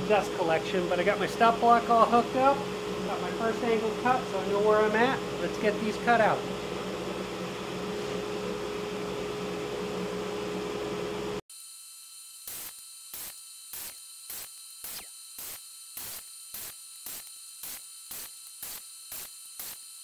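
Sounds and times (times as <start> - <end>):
dust collector running: 0.0 - 20.0.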